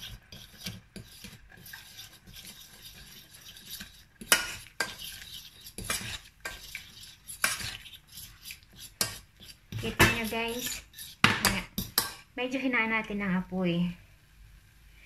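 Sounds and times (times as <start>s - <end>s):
utensil scraping saucepan: 0.0s - 12.2s.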